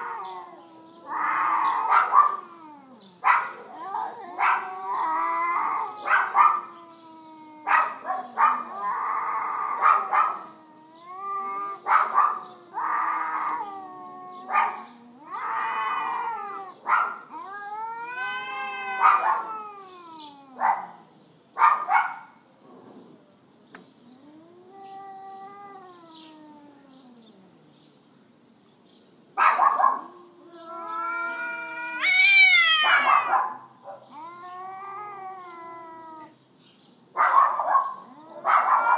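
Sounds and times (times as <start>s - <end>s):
cats yowling in a fight: 0.0s - 21.1s, 24.2s - 27.6s, 29.7s - 36.4s, 37.2s - 38.9s.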